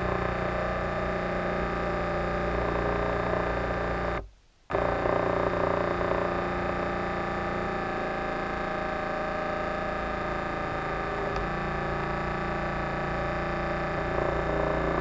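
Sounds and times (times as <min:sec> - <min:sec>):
distorted electronic music: 0:00.0 - 0:15.0.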